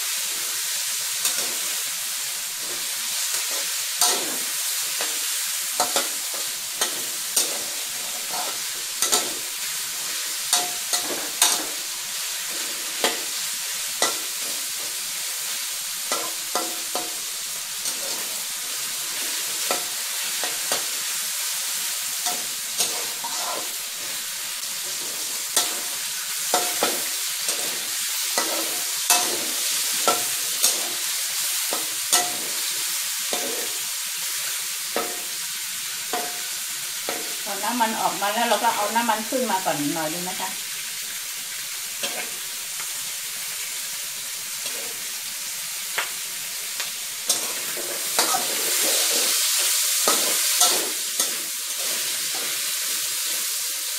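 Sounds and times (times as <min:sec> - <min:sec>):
pork sizzling in oil: 0:00.0 - 0:53.9
metal spatula scraping a wok: 0:01.0 - 0:37.4, 0:42.0 - 0:43.9, 0:44.5 - 0:45.8, 0:46.7 - 0:53.6.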